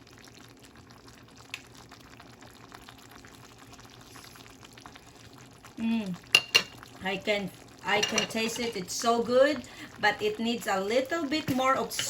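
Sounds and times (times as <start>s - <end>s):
soup simmering and bubbling: 0.0s - 12.0s.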